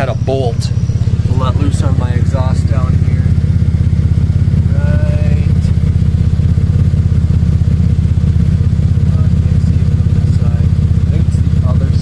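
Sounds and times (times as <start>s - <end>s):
car engine idling: 0.0s - 12.0s
rapid exhaust pulsing: 0.0s - 12.0s.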